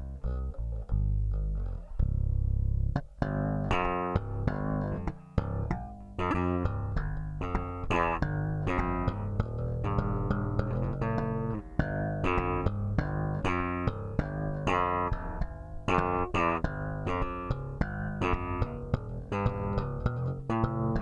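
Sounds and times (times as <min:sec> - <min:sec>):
electric bass plucked notes: 0:00.0 - 0:21.0.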